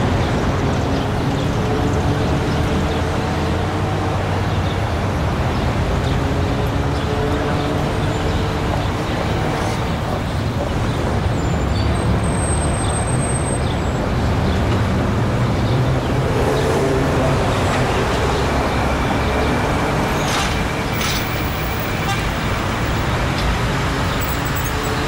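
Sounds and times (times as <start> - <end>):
city traffic engines and tyres: 0.0 - 25.0.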